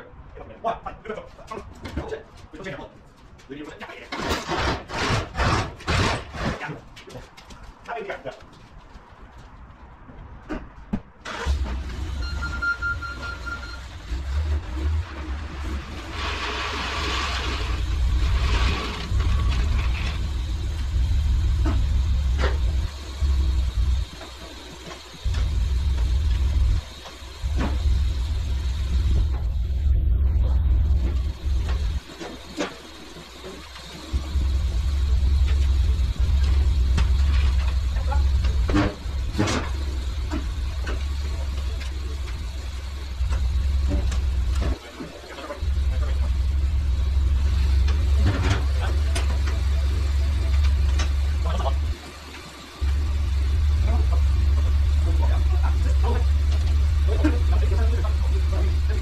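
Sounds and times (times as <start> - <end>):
truck engine rumbling: 11.2 - 59.0.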